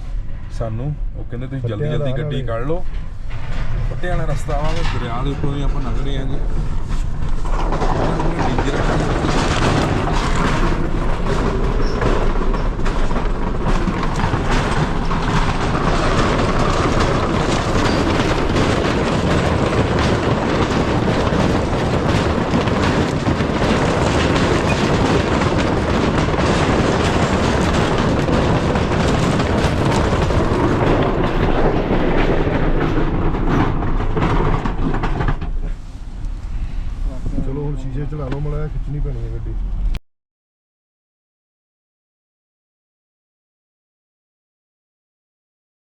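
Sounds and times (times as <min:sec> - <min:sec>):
vehicle rumbling over rocky track: 0:00.0 - 0:40.0
rattling and clattering: 0:01.7 - 0:39.8.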